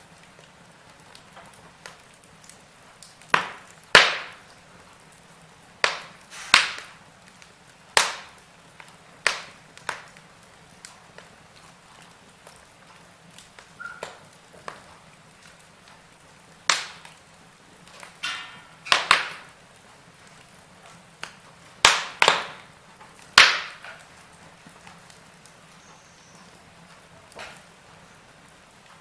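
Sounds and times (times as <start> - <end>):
fizzing crackle: 0.0 - 29.0
wood fire crackling and popping: 0.0 - 29.0.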